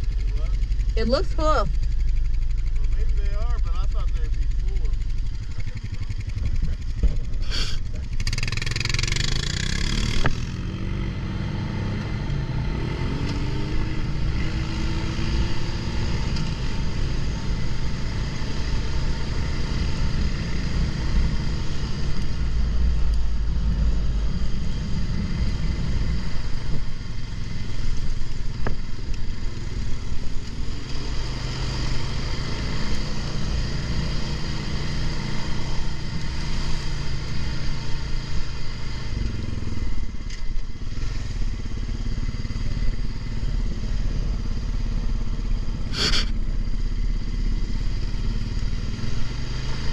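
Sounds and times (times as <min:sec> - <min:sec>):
quad bike engine running: 0:00.0 - 0:49.9.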